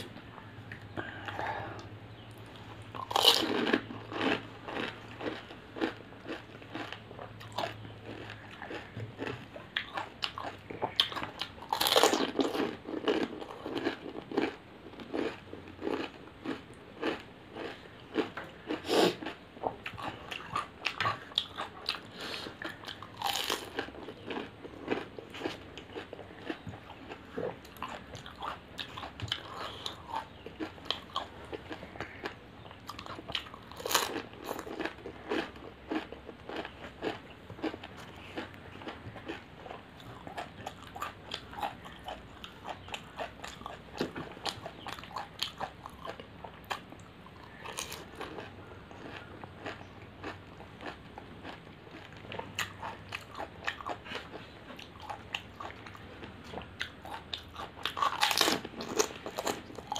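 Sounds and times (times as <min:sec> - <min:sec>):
crunchy food chewing: 0:00.0 - 0:59.9.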